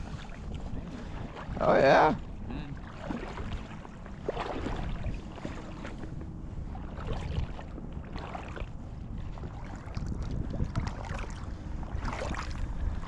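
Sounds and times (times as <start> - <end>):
creek water splashing: 0.0 - 6.0, 6.7 - 8.7, 9.3 - 13.0
wind on microphone: 0.0 - 13.0.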